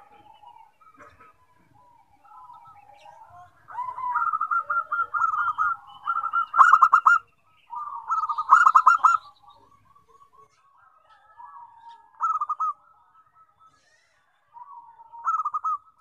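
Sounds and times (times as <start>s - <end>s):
dove cooing: 0.0s - 12.9s, 13.6s - 16.0s.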